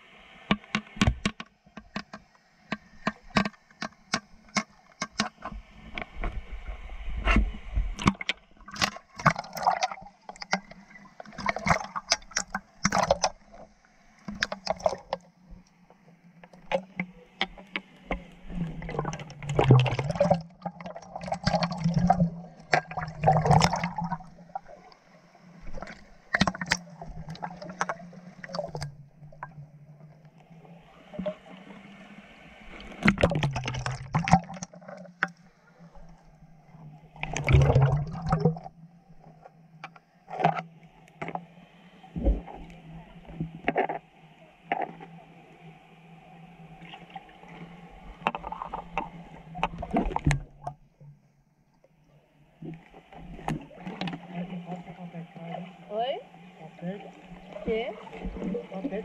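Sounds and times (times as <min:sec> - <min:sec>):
river water splashing and gurgling: 0:00.0 - 0:15.6, 0:16.2 - 0:39.3, 0:40.2 - 0:50.9, 0:52.4 - 0:59.0.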